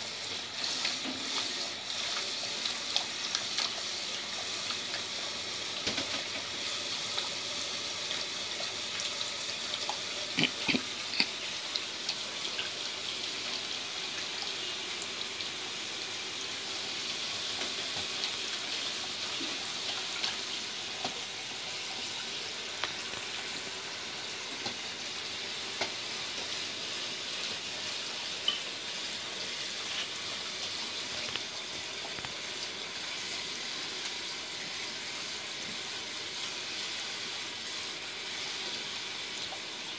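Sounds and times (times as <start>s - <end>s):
water spraying into a sink: 0.0s - 39.9s.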